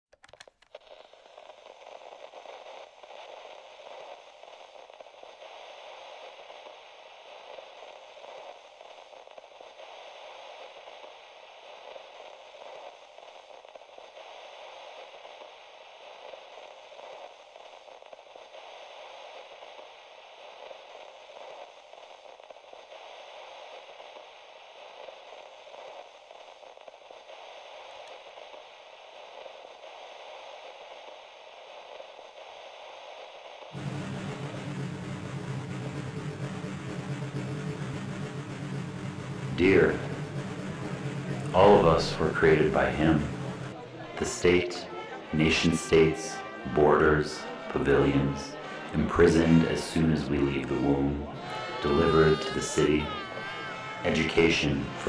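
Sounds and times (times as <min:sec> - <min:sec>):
crackling static: 0:00.0 - 0:55.0.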